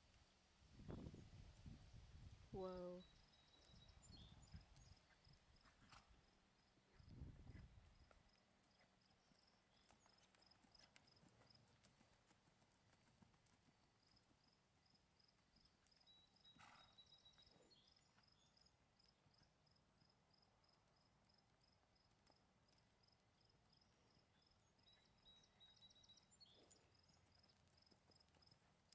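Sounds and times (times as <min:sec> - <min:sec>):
faint hoofbeats on soft dirt: 0:00.0 - 0:28.9.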